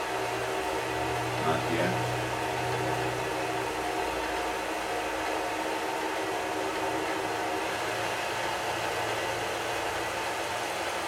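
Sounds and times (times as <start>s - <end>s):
lathe motor humming: 0.0s - 11.0s.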